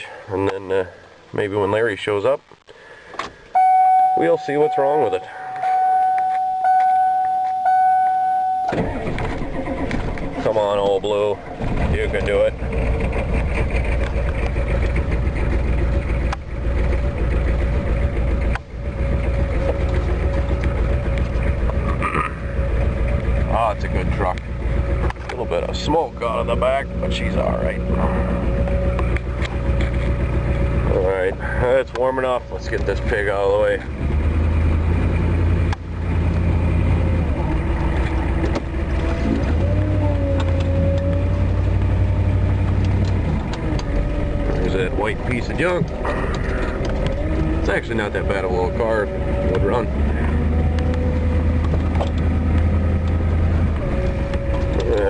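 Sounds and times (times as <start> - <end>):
truck engine idling: 2.8 - 55.0.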